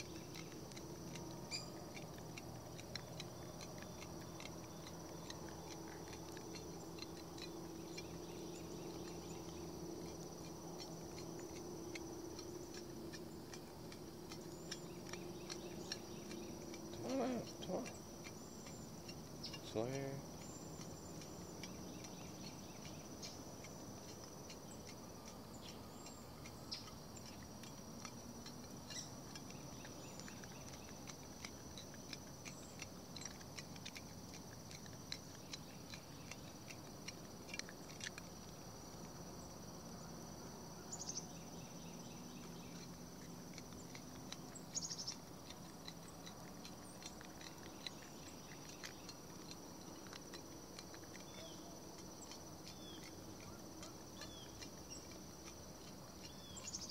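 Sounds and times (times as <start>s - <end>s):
crickets trilling: 0.0s - 56.9s.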